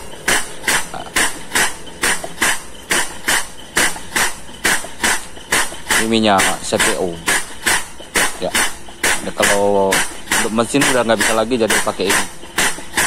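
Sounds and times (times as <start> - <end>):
air-driven vacuum pump puffing: 0.0 - 13.0.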